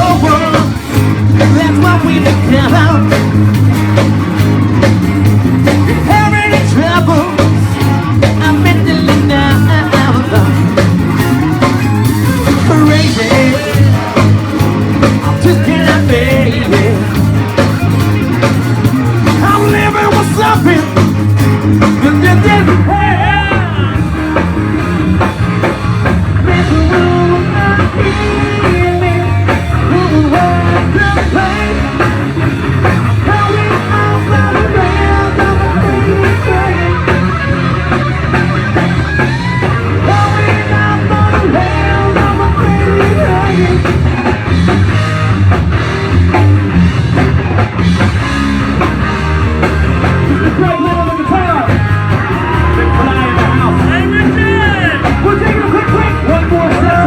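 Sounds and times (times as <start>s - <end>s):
bass guitar: 0.0s - 57.0s
drum kit: 0.0s - 57.0s
electric guitar lead line: 0.0s - 57.0s.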